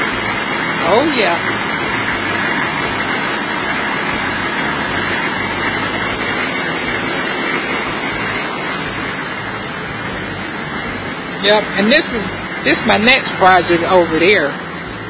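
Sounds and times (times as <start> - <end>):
pickup truck idling: 0.0 - 15.0.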